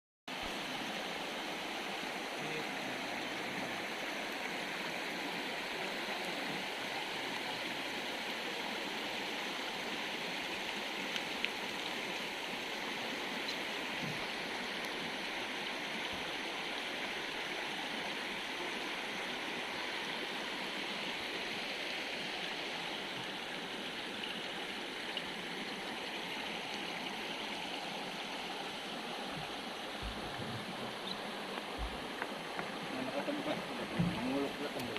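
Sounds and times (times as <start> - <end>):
stream flowing over rocks: 0.3 - 34.9.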